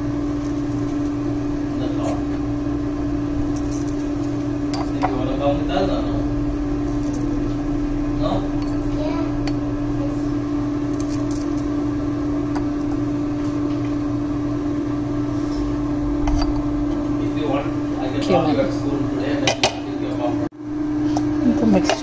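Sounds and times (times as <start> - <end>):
air fryer fan humming: 0.0 - 22.0.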